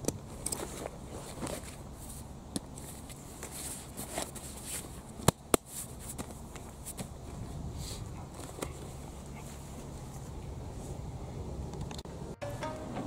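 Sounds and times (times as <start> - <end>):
canvas tent and straps shifting: 0.0 - 11.0.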